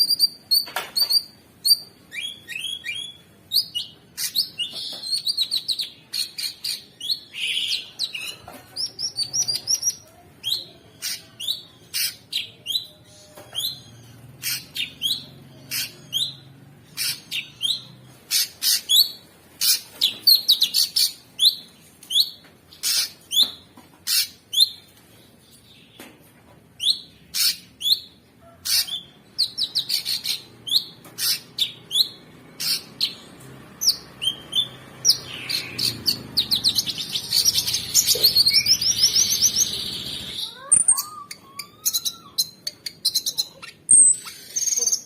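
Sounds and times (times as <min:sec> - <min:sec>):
bird chirping and trilling: 0:00.0 - 0:24.9, 0:26.8 - 0:45.0.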